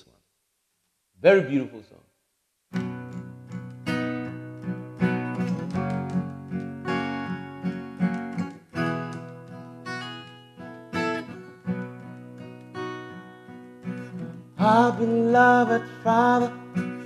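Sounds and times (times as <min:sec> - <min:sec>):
acoustic guitar strumming chords: 0:02.7 - 0:17.0.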